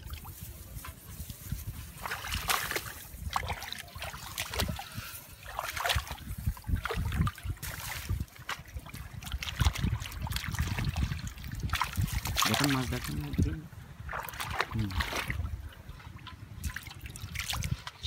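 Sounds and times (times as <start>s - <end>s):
hands splashing in muddy water: 0.0s - 13.4s, 14.1s - 15.6s.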